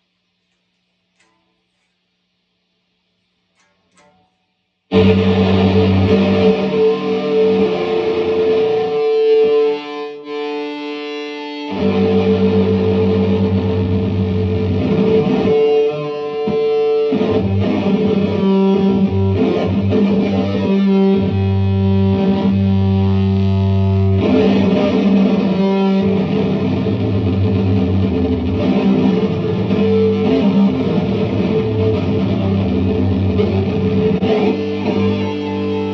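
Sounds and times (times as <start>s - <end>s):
distorted synth-like electric guitar: 4.9s - 35.9s.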